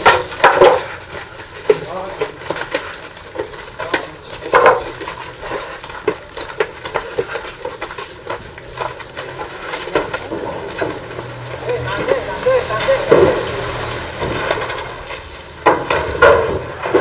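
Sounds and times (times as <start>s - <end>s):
footsteps on straw-littered ground: 0.0s - 16.0s.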